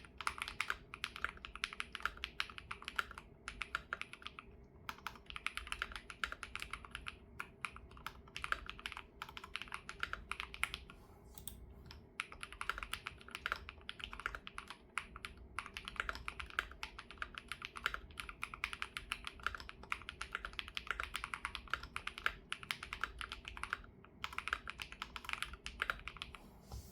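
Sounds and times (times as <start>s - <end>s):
fast typing on mechanical keyboard: 0.0s - 10.8s, 12.2s - 26.4s.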